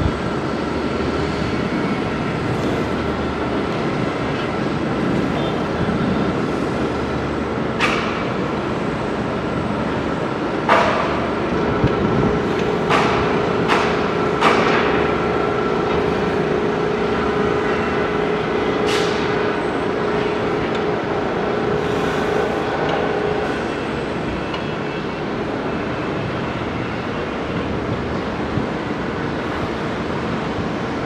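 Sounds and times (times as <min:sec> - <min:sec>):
construction machinery engine drone: 0:00.0 - 0:31.0.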